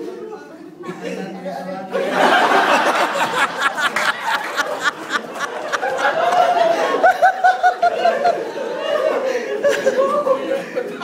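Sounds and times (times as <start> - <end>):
people laughing and chattering: 0.0 - 11.0
rhythmic ha-ha-ha laugh: 2.0 - 11.0.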